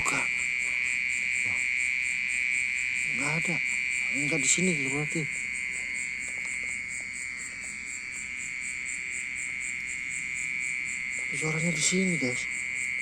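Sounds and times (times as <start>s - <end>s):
insect buzzing trill: 0.0s - 13.0s.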